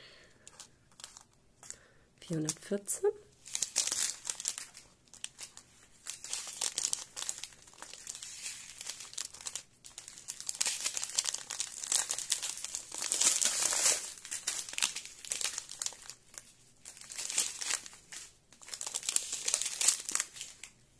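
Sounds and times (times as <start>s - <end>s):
plastic bags crinkling: 0.4s - 2.7s, 3.4s - 20.9s.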